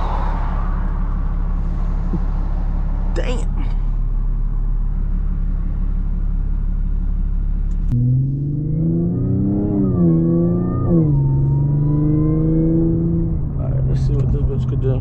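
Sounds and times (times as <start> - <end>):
car engine accelerating: 0.0 - 15.0
low road rumble: 0.0 - 15.0.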